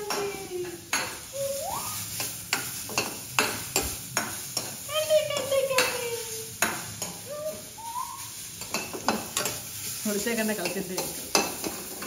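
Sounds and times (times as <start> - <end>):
greens sizzling in a pan: 0.0 - 12.0.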